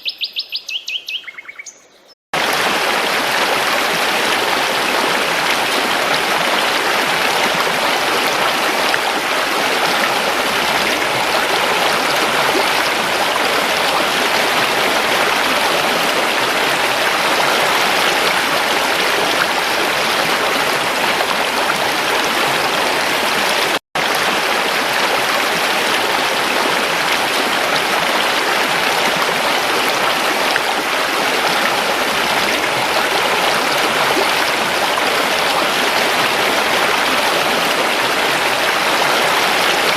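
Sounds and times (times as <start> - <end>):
creek water rushing over stones: 2.4 - 39.9.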